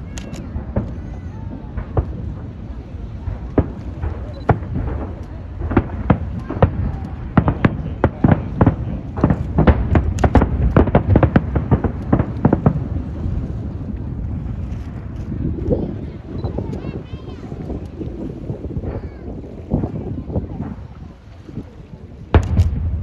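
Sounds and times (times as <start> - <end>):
fireworks bangs: 0.0 - 23.0
steady low rumble: 0.0 - 23.0.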